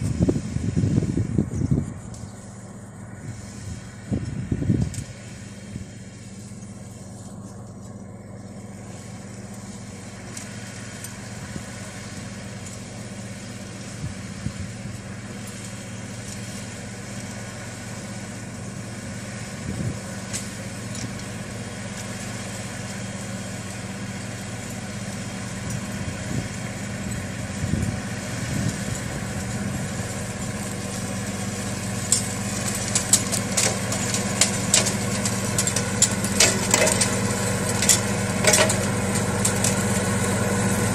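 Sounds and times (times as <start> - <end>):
mower cutting vegetation: 0.0 - 40.9
tractor diesel engine running: 0.0 - 40.9.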